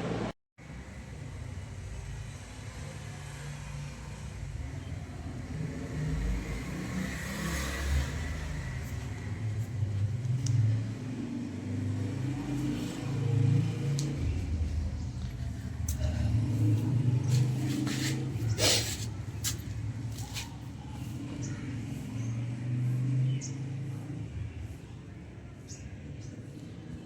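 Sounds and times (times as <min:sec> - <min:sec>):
motor vehicle rumble: 0:04.1 - 0:27.0.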